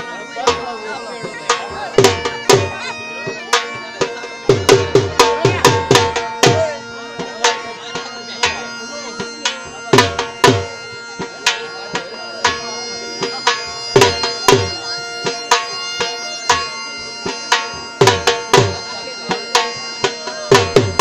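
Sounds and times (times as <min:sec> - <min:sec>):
dhol drum beating: 0:00.0 - 0:21.0
reed wind instrument steady note: 0:00.0 - 0:21.0.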